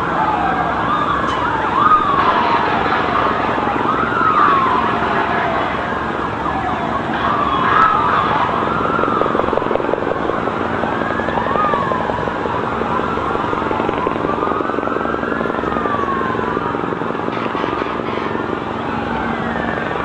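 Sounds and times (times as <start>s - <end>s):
city din: 0.0s - 20.0s
emergency sirens wailing: 0.0s - 20.0s.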